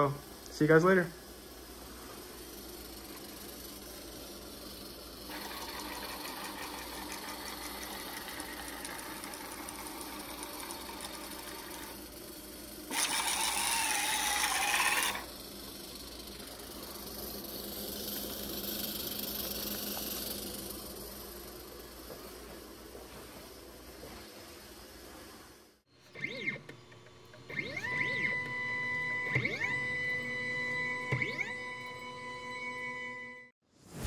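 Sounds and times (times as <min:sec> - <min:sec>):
stepper motor whirring: 0:00.0 - 0:33.5
high wavering motor whine: 0:01.9 - 0:25.2, 0:25.9 - 0:33.5.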